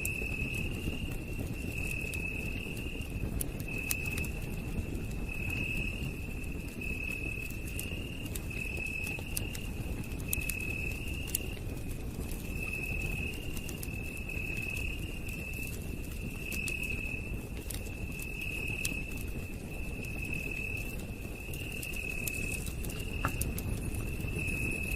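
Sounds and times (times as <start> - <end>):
campfire crackling and popping: 0.0 - 24.9
night insects trilling: 0.0 - 24.9.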